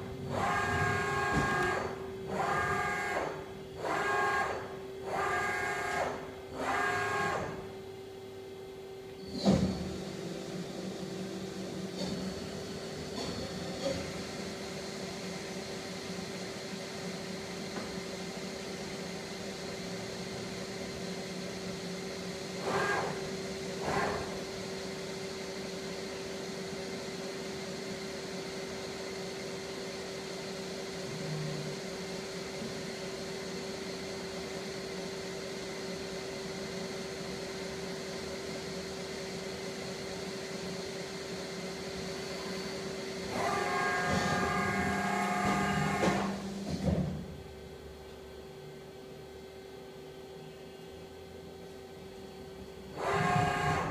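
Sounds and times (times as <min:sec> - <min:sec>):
lathe running hum: 0:00.0 - 0:09.2, 0:09.9 - 0:50.4, 0:51.1 - 0:53.9.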